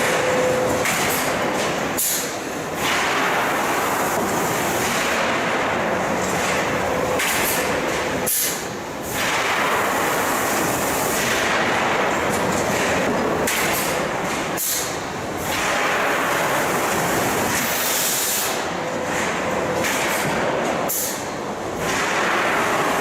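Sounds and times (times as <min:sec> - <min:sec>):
loud machine noise: 0:00.0 - 0:21.2.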